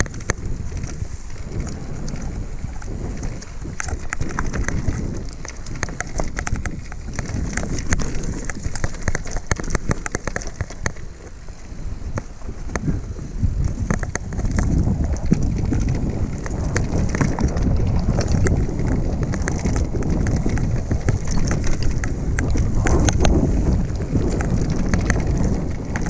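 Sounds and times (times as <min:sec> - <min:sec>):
bike rattling over loose stones: 0:00.0 - 0:26.0
wind buffeting microphone: 0:00.0 - 0:26.0.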